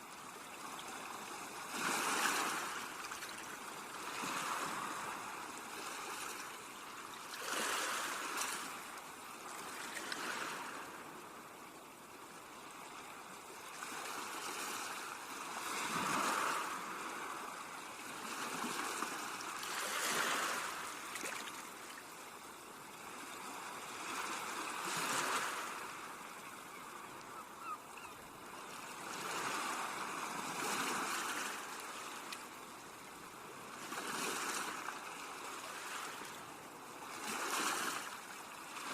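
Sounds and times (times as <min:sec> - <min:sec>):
sea waves breaking on beach: 0:00.0 - 0:11.5, 0:12.6 - 0:38.9.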